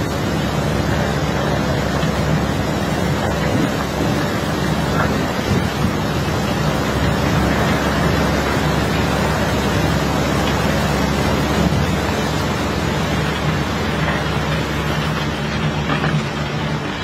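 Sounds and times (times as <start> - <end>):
engine drone: 0.0 - 17.0
hose water jet spraying: 0.0 - 17.0.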